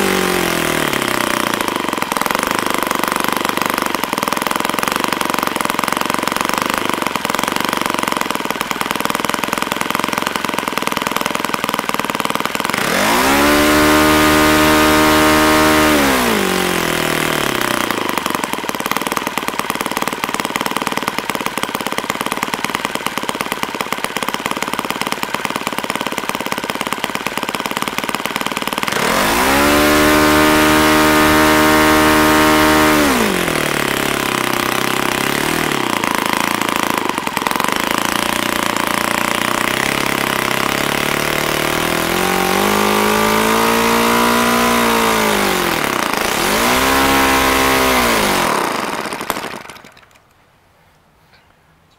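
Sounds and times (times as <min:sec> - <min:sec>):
model airplane engine revving: 0:00.0 - 0:50.2.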